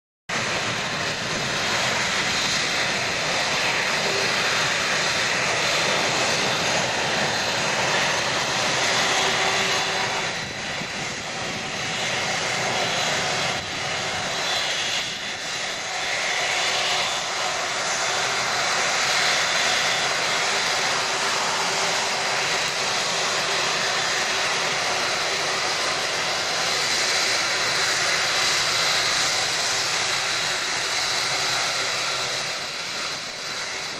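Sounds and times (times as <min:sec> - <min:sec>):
faint engine whine: 0:00.3 - 0:33.9
jet engines running: 0:00.3 - 0:33.9.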